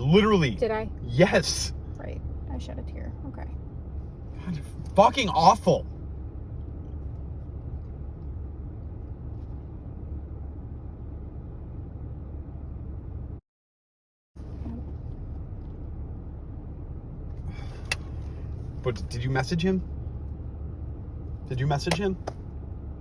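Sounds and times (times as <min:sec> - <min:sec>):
car interior rumble: 0:00.0 - 0:13.4, 0:14.4 - 0:23.0.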